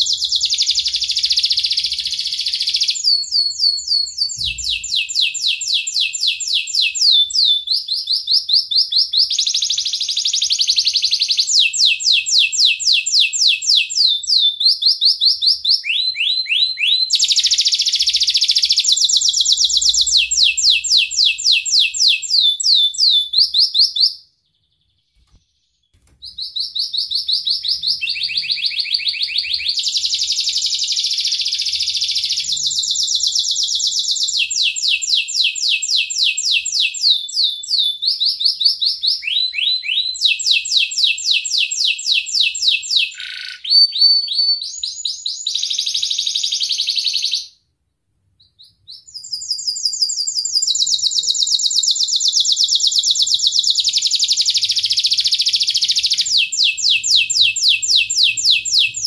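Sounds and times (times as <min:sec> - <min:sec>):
canary singing: 0:00.0 - 0:47.6, 0:48.4 - 0:59.0.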